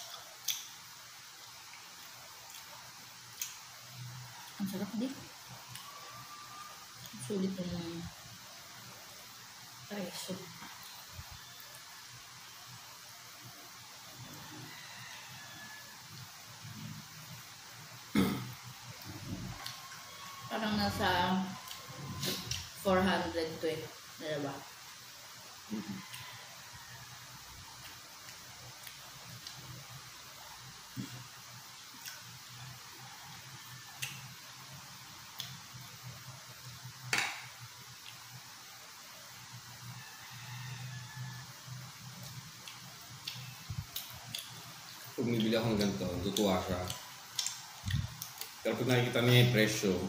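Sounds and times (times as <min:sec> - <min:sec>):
steady hiss: 0:00.0 - 0:50.0.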